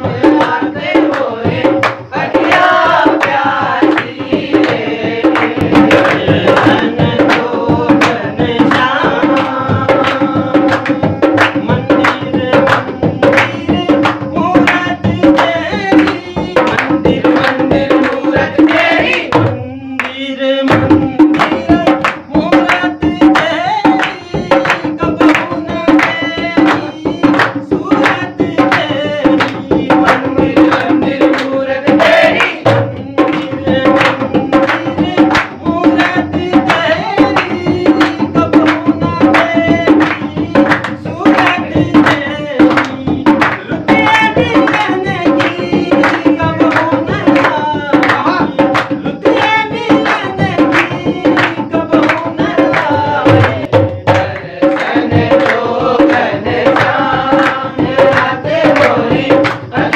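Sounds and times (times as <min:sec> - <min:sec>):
hand drum beating: 0:00.0 - 0:59.9
man singing devotional song: 0:00.0 - 0:59.9.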